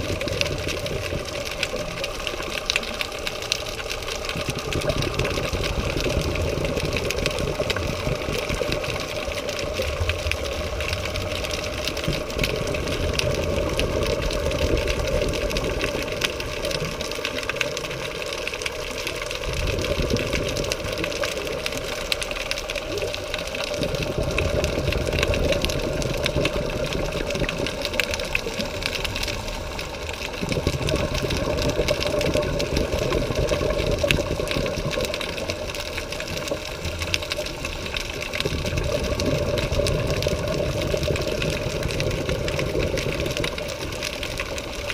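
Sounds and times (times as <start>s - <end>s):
underwater whirring drone: 0.0s - 44.9s.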